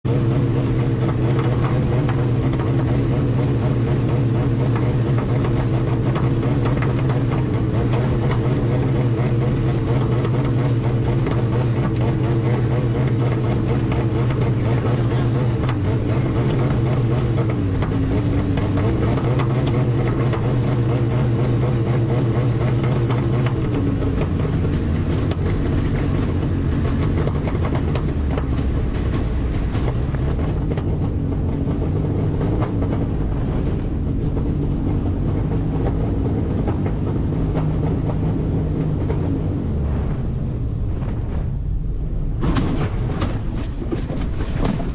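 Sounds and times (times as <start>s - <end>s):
light aircraft piston engine: 0.1s - 42.0s.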